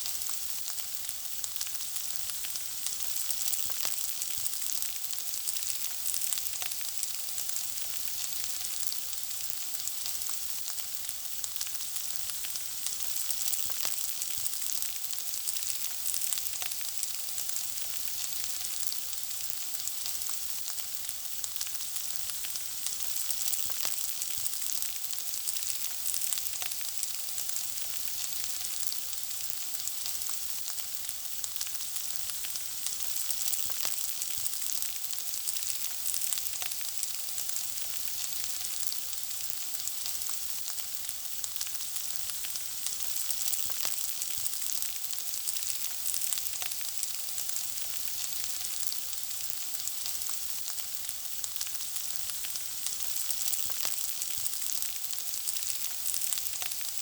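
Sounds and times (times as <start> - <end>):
food frying in hot oil: 0.0 - 57.0.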